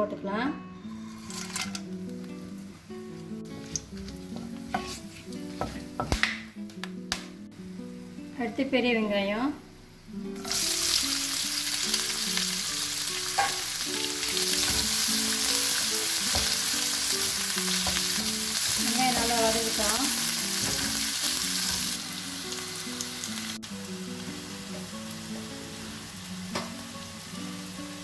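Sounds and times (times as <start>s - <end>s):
onions sizzling in hot fat: 0.8s - 6.2s, 10.1s - 28.0s.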